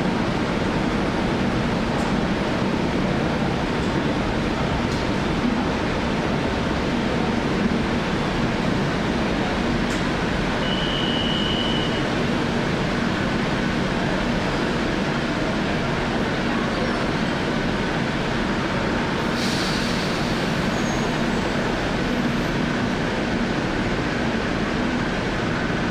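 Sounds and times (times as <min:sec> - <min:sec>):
rumble of trains: 0:00.0 - 0:25.9.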